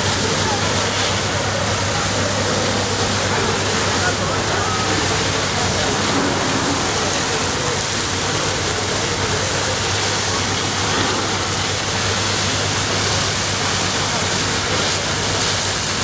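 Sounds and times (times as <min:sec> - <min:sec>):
fire hoses spraying water: 0:00.0 - 0:16.0.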